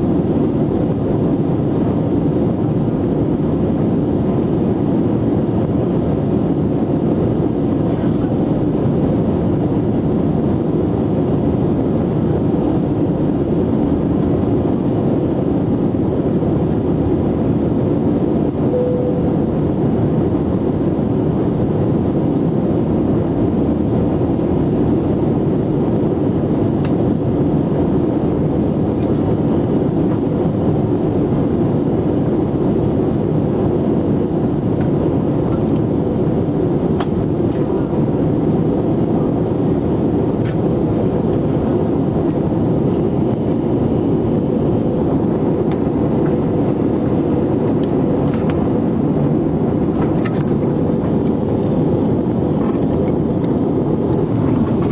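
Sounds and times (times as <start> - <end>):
jet engine roar in cabin: 0.0 - 54.9.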